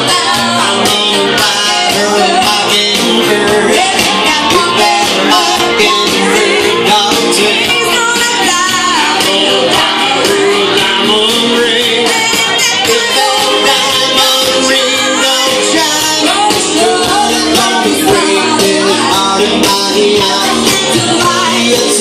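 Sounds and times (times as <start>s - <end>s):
man singing: 0.0s - 22.0s
recorded backing track: 0.0s - 22.0s
woman singing: 0.0s - 22.0s.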